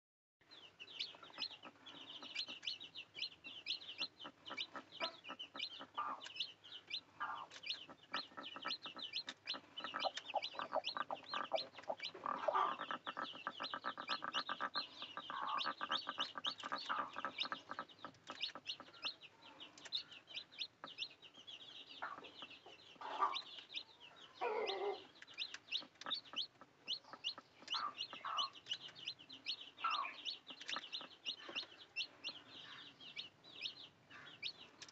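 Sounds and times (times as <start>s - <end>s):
chicks peeping: 0.4s - 34.9s
hen clucking: 0.8s - 34.9s.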